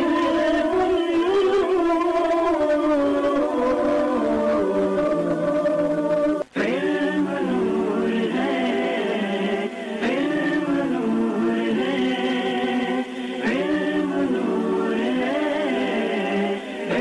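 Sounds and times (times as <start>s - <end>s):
choir-like voices singing held notes: 0.0s - 17.0s.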